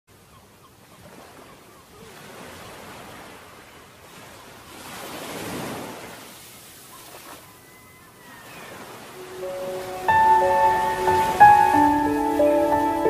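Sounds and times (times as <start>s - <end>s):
sea water washing and rushing: 1.0s - 13.0s.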